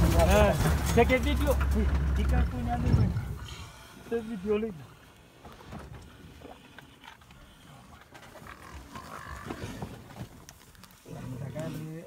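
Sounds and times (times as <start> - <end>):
lions growling and grunting: 0.0 - 10.4, 11.0 - 12.0.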